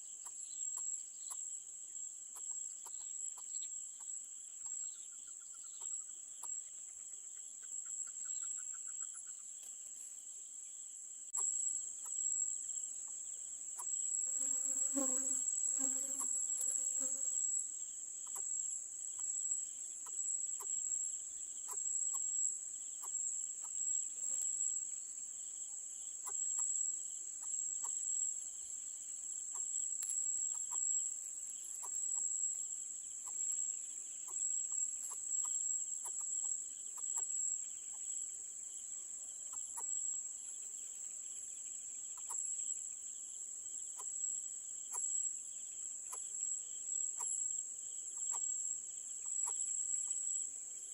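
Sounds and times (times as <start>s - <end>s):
faint chirps or ticks: 0.0s - 1.5s, 2.3s - 10.1s, 11.3s - 14.2s, 18.2s - 24.8s, 26.0s - 38.4s, 39.2s - 42.8s, 43.8s - 50.4s
insect chorus drone: 0.0s - 50.9s.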